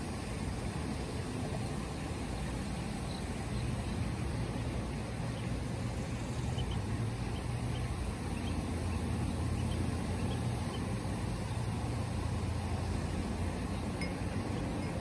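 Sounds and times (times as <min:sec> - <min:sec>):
steady low hum: 0:00.0 - 0:15.0
ducklings peeping: 0:01.5 - 0:15.0.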